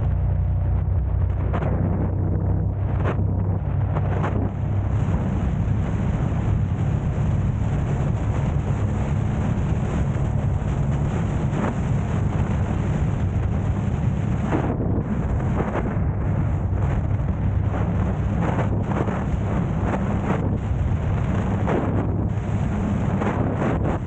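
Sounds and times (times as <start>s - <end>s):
moving car rumble: 0.0s - 24.0s
road and wind noise: 0.0s - 24.0s.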